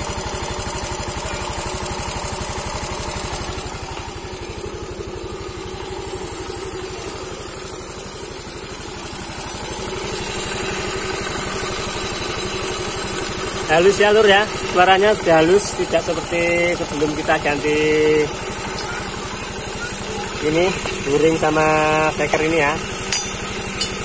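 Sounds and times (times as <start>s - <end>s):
scooter engine idling: 0.0s - 24.0s.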